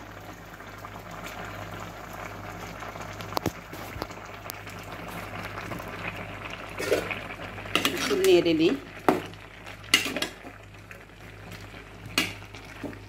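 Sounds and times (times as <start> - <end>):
curry bubbling in metal pot: 0.0 - 13.0.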